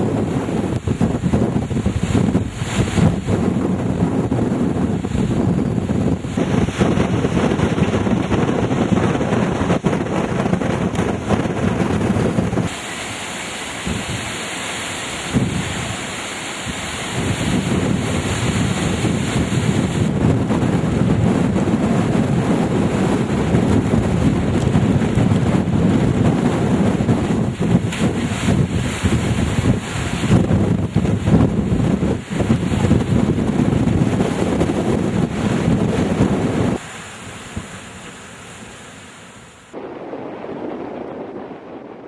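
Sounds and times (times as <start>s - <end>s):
wind buffeting microphone: 0.0s - 12.8s, 13.6s - 36.9s, 39.7s - 42.0s
driving rain: 0.0s - 38.4s, 39.6s - 42.0s.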